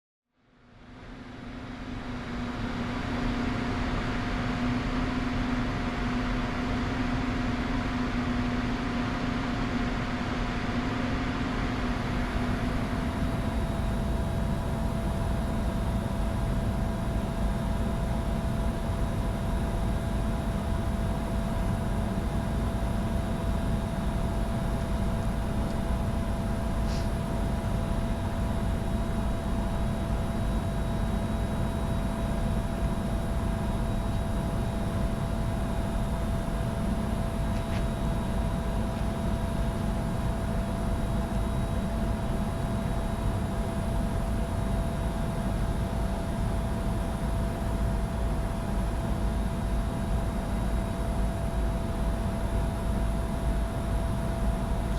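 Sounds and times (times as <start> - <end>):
engine and avionics hum: 0.6 - 54.9.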